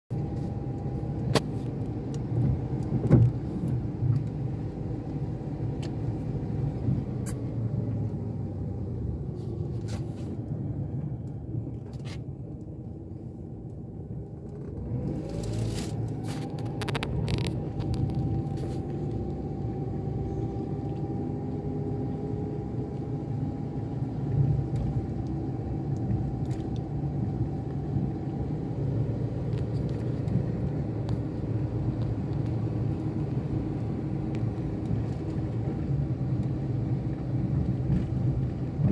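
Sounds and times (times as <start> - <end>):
road traffic rumble: 0.1 - 38.9
vehicle whine: 0.1 - 38.9.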